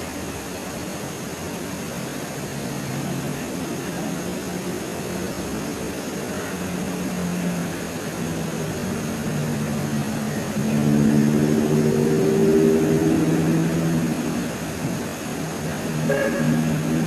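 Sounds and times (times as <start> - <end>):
low engine-like drone: 0.0 - 17.0.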